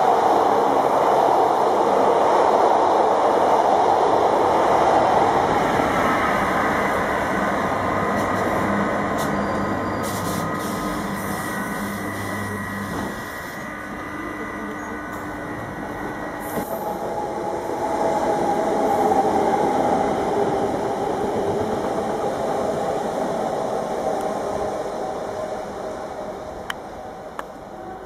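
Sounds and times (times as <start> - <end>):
electric locomotive hum: 0.0 - 28.0
train wheels rushing on rail: 0.0 - 28.0.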